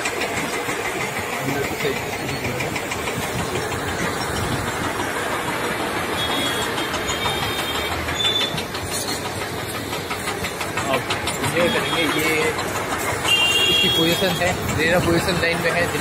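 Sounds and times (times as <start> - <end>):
diesel engines rumbling: 0.0 - 16.0.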